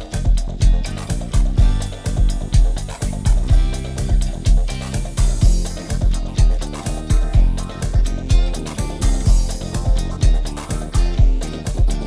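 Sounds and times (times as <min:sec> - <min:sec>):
music with bass-heavy beat: 0:00.0 - 0:12.0.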